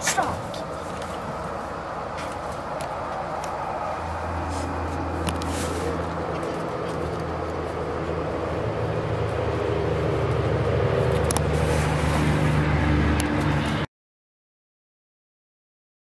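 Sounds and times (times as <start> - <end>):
engine running with low hum: 0.0 - 13.9.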